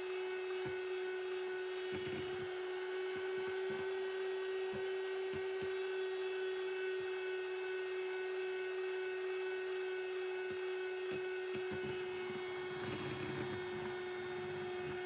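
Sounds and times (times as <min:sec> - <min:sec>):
electric mixer motor hum: 0:00.0 - 0:15.0.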